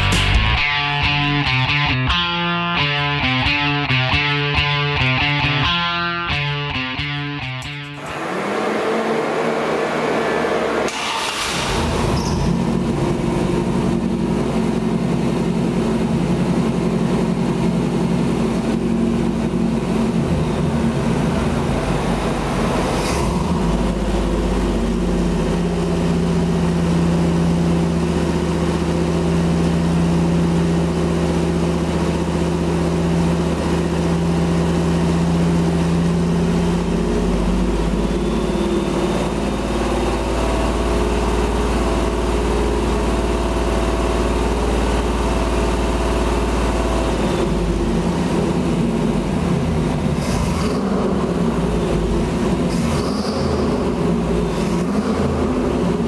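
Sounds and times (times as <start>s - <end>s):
engine starting and idling: 7.8s - 56.0s.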